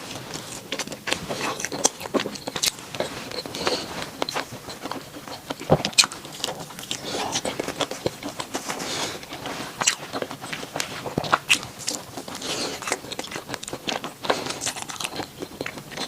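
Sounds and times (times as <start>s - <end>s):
chewing bread: 0.0s - 16.0s.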